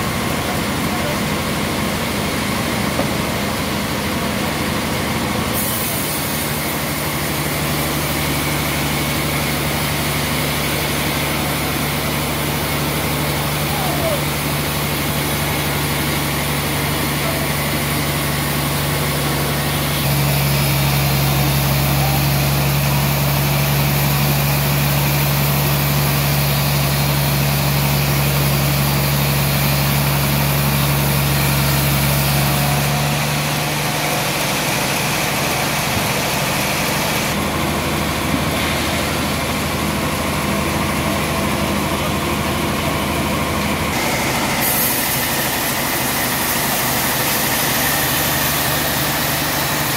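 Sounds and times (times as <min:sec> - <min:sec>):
band sawmill humming: 0:00.0 - 0:49.9.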